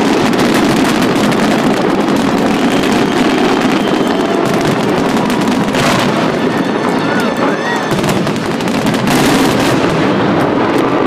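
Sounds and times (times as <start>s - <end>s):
fireworks crackling and booming: 0.0s - 11.0s.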